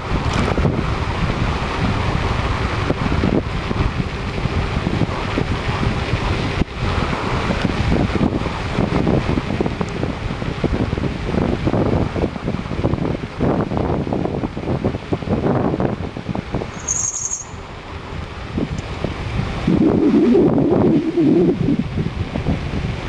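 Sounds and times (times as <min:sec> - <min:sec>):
low rumble of road and engine: 0:00.0 - 0:23.0
wind buffeting microphone: 0:00.0 - 0:23.0.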